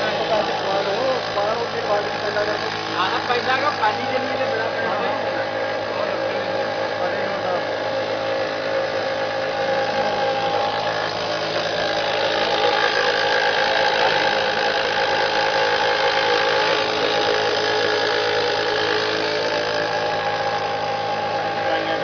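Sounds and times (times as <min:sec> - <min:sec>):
fuel pump motor humming: 0:00.0 - 0:22.0.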